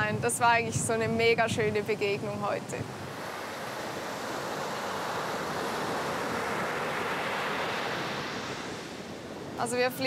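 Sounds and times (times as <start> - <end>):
ocean surf rushing: 0.0 - 10.0.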